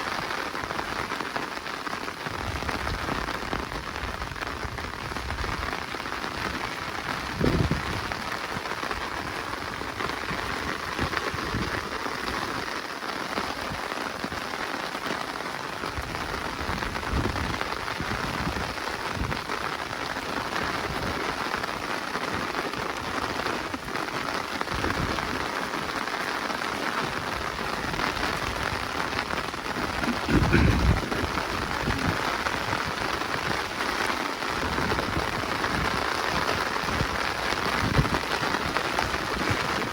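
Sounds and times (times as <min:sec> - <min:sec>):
rain falling through forest: 0:00.0 - 0:39.9.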